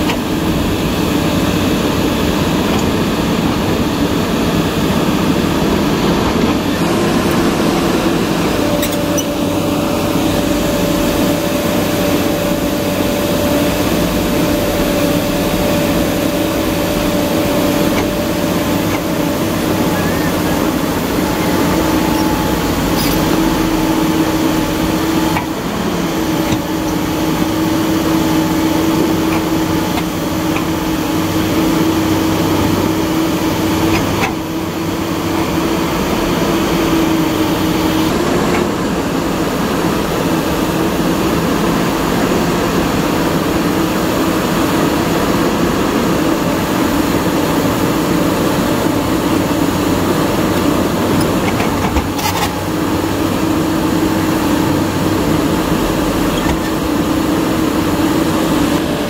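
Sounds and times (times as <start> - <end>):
heavy diesel engines under load: 0.0 - 59.0.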